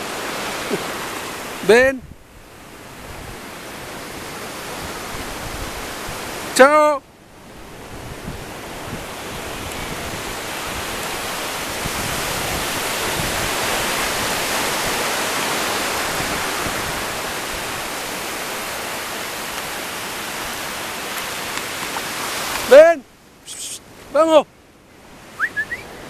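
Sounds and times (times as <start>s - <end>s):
waves washing up a beach: 0.0s - 26.0s.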